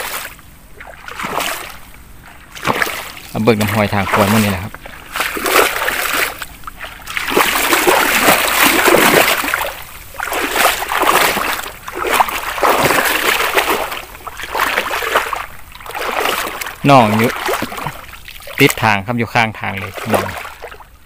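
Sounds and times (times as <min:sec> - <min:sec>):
water sloshing from wading: 0:00.0 - 0:21.0.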